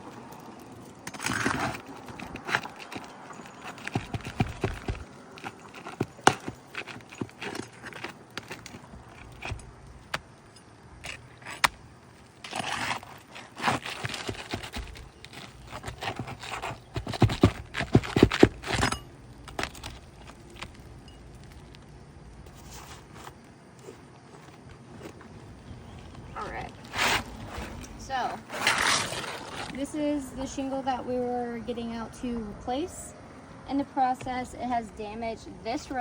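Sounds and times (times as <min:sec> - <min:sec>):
shingles scraping and rasping: 0:00.0 - 0:30.8.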